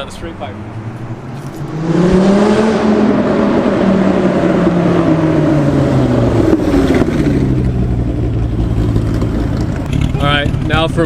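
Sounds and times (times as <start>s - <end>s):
loud car engine revs falling: 1.5s - 10.5s.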